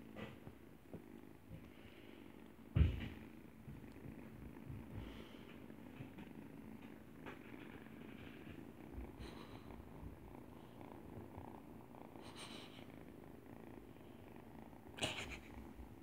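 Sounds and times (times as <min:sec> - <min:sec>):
kittens purring: 0:00.0 - 0:16.0.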